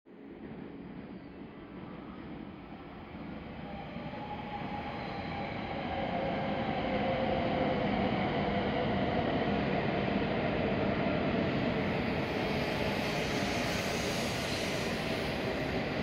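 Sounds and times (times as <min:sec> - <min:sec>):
steady train whine: 0:00.1 - 0:16.0.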